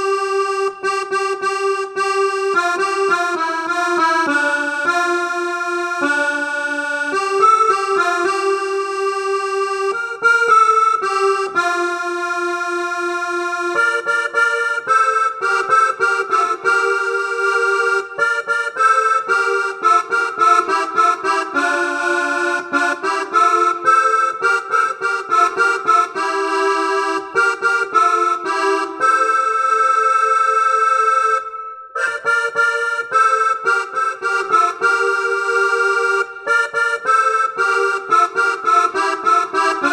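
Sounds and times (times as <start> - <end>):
electronic keyboard melody: 0.0 - 39.9.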